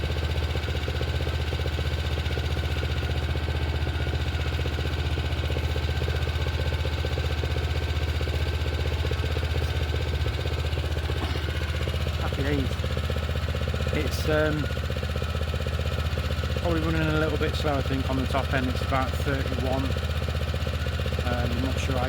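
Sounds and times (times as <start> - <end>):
lawn mower engine idling: 0.0 - 22.0.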